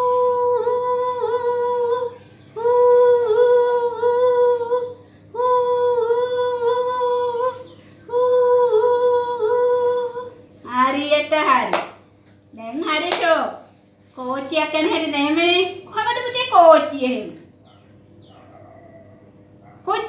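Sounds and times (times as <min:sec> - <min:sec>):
voices humming a tune: 0:00.0 - 0:20.0.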